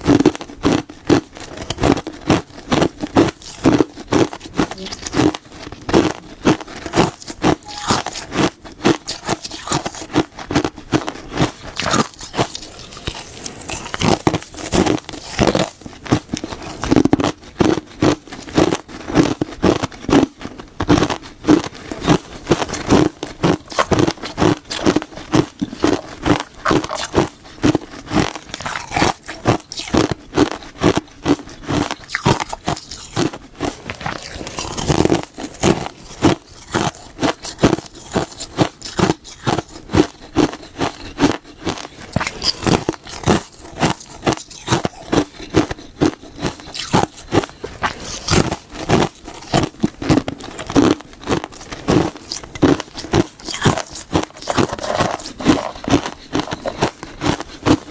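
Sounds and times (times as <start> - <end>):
crunchy chewing: 0.0 - 57.9.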